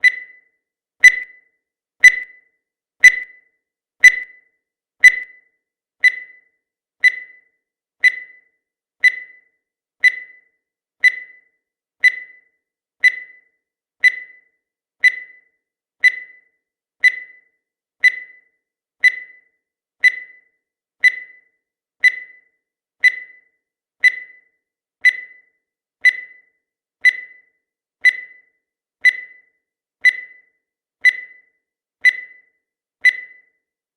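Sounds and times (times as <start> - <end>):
high electronic timer beeps: 0.0 - 1.4, 2.0 - 2.4, 3.0 - 3.4, 4.0 - 33.7.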